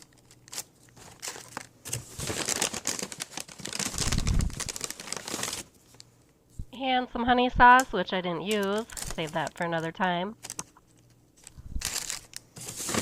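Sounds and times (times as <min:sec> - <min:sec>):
food packaging crinkling: 0:00.0 - 0:06.1, 0:08.5 - 0:13.0.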